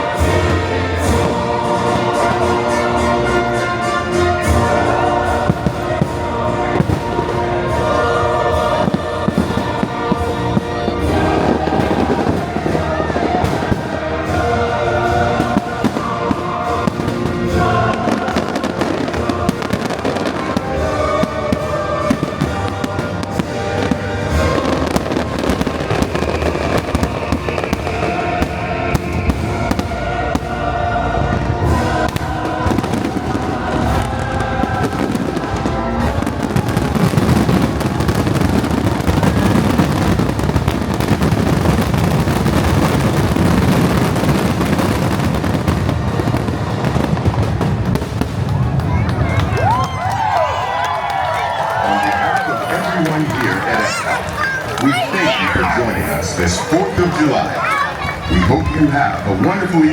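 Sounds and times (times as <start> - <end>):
fireworks bursting: 0.0 - 59.9
orchestral and choral music: 0.0 - 59.9.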